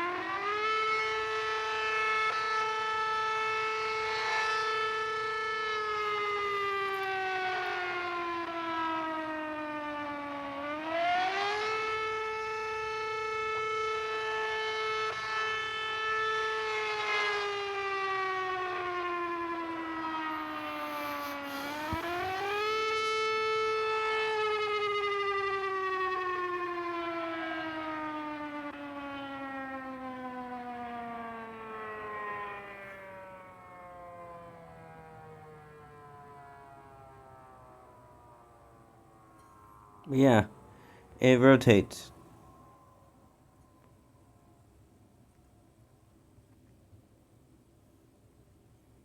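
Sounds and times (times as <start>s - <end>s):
rotating warning siren wailing: 0.0s - 46.2s.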